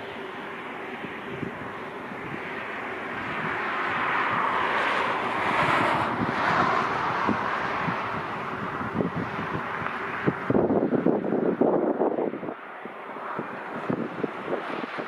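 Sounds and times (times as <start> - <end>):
jet airliner engines passing: 0.0 - 15.0
wind buffeting microphone: 0.0 - 15.0.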